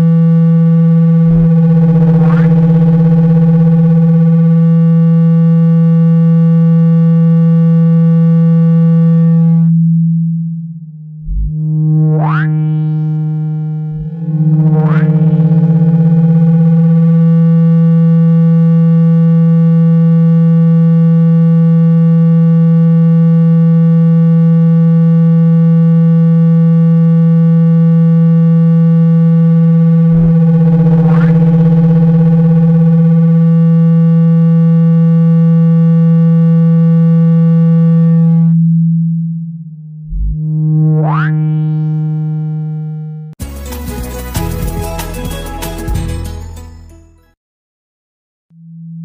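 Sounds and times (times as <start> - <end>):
low buzzing tone from phone speaker: 0.0 - 43.4, 48.5 - 49.0.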